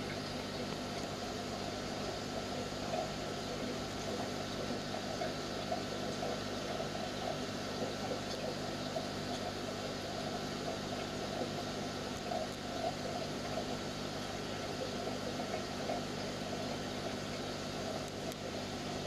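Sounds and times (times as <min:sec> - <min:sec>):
aquarium equipment humming: 0:00.0 - 0:19.0.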